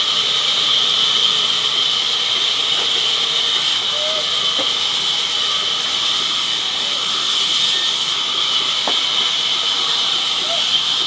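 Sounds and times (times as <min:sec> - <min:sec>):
band saw cutting wood: 0:00.0 - 0:11.0.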